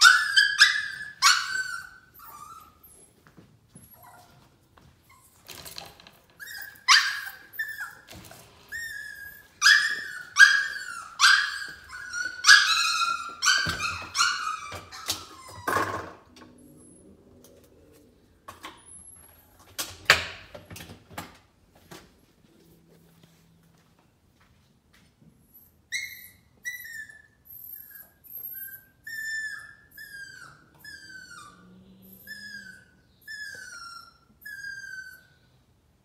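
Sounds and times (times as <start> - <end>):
puppy whining: 0.0 - 19.7, 25.4 - 35.7.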